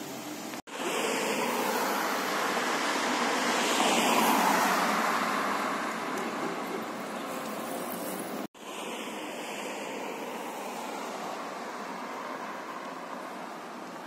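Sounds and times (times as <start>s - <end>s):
passing vehicles hiss: 0.0s - 14.0s.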